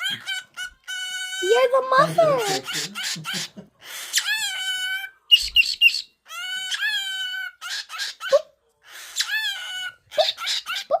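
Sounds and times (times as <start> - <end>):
pet calling: 0.0 - 11.0.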